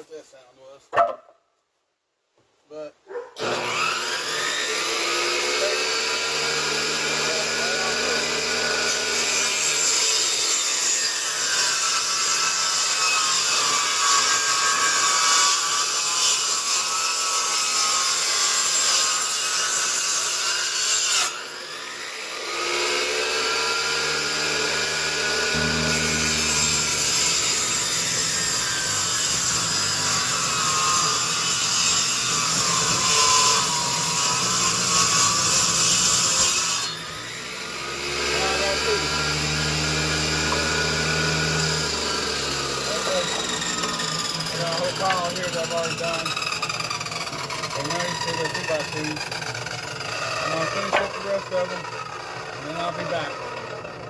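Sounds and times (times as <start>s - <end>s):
table saw cutting wood: 3.4s - 54.0s.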